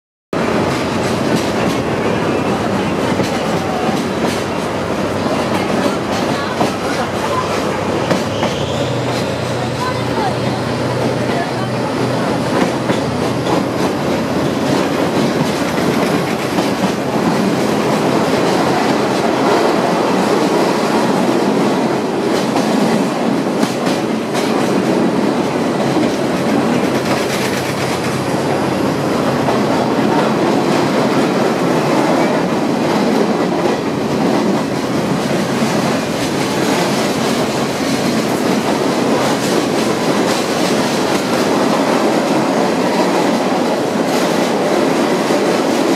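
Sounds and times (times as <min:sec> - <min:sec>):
train wheels clattering on rails: 0:00.4 - 0:45.9.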